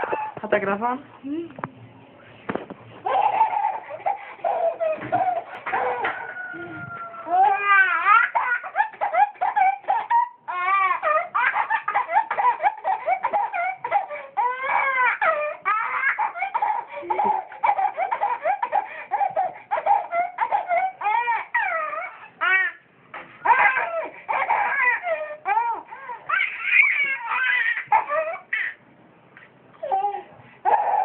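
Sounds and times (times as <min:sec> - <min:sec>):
toddler laughing: 0:03.0 - 0:22.7, 0:23.4 - 0:28.8, 0:29.8 - 0:31.0.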